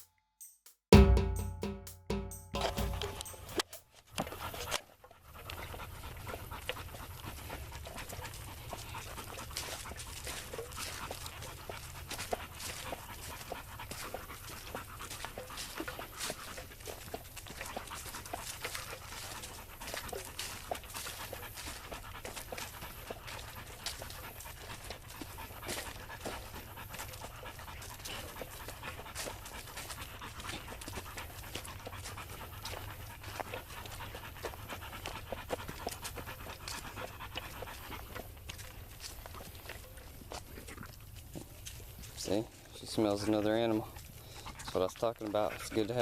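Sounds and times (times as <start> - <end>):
dog panting: 1.3 - 46.0.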